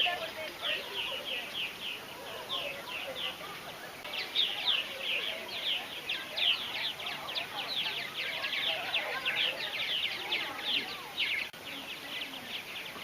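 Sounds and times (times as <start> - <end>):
birds chattering in a colony: 0.0 - 13.0.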